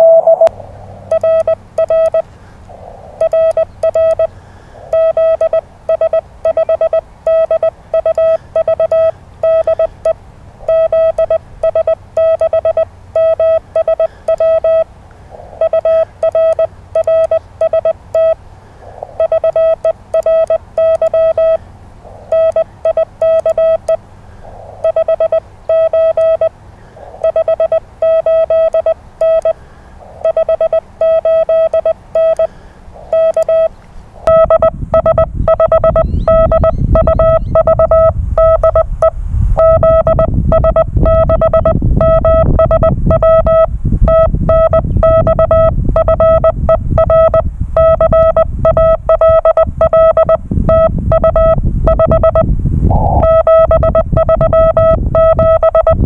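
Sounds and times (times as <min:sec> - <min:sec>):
morse code tone: 0:00.0 - 0:00.5, 0:01.1 - 0:02.3, 0:03.2 - 0:04.3, 0:04.9 - 0:14.9, 0:15.6 - 0:18.4, 0:19.1 - 0:24.0, 0:24.8 - 0:26.6, 0:27.2 - 0:56.0.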